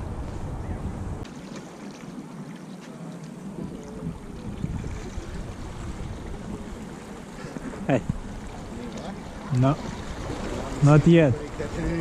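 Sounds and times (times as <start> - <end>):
wind buffeting microphone: 0.0 - 1.3, 3.4 - 12.0.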